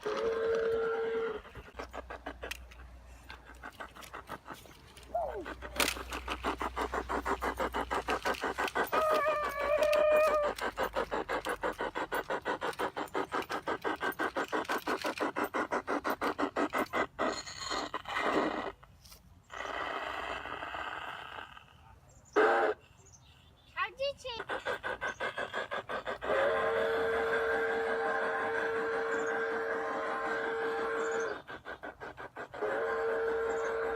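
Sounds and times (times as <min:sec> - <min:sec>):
model train wheels clicking: 0:00.0 - 0:18.9, 0:23.8 - 0:33.9.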